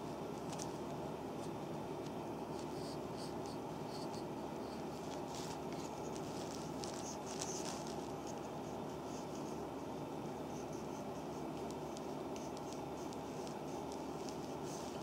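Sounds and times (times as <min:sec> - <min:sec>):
steady background hiss: 0:00.0 - 0:15.0
stick scratching on skin: 0:02.5 - 0:15.0.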